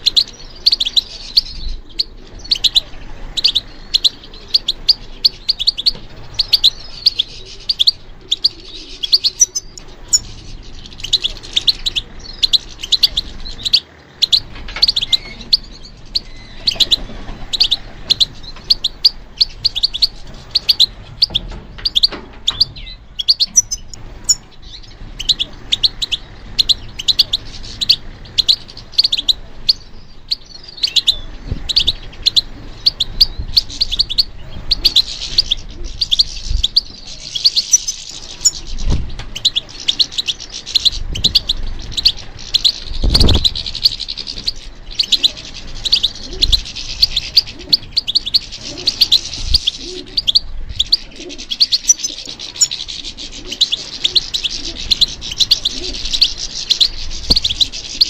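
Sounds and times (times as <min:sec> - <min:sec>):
goldfinch twittering: 0:00.0 - 0:58.0.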